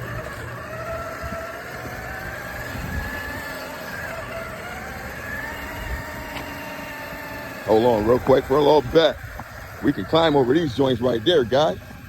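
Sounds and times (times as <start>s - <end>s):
faint whine drifting in pitch: 0.0s - 12.0s
vehicle engine rumble: 0.0s - 12.0s.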